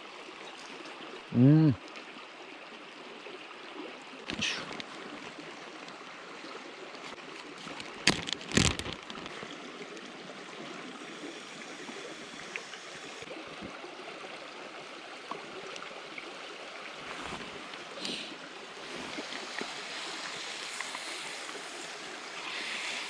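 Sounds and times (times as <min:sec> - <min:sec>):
mountain river running: 0:00.0 - 0:23.0.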